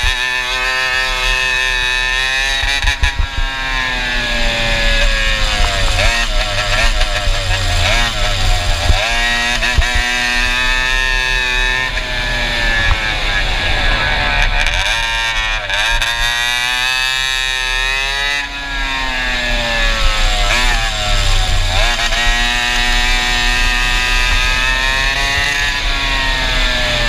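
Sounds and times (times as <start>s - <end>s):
kart engine at full throttle: 0.0s - 27.0s.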